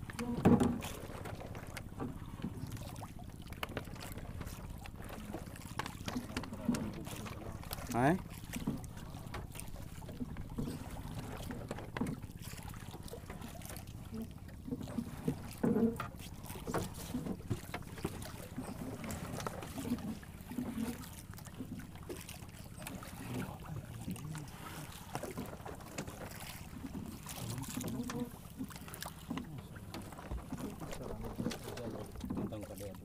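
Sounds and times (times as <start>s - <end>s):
water lapping against boat hull: 0.0s - 33.0s.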